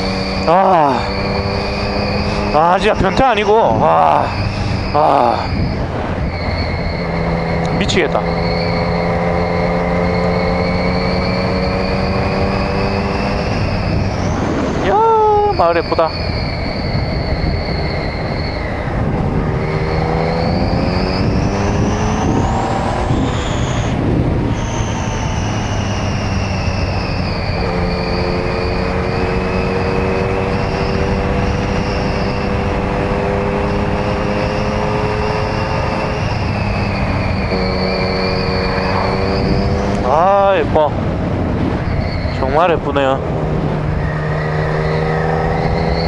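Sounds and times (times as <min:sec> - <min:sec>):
motorcycle engine: 0:00.0 - 0:46.0
wind and road noise: 0:00.0 - 0:46.0.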